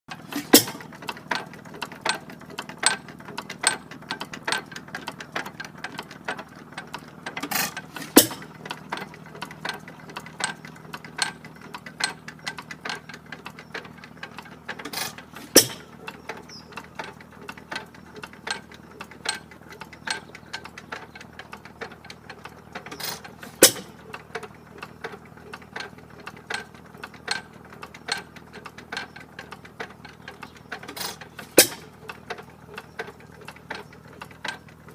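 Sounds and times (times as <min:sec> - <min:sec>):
stationary engine clicking: 0:00.1 - 0:34.9.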